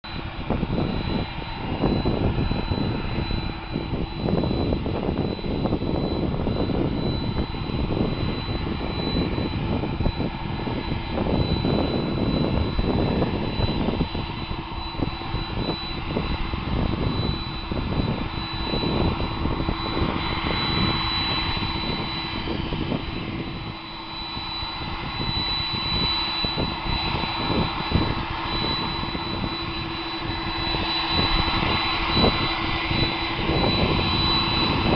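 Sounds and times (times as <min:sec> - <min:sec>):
high-pitched engine whine: 0:00.0 - 0:34.9
jet engine rumble: 0:00.0 - 0:34.9.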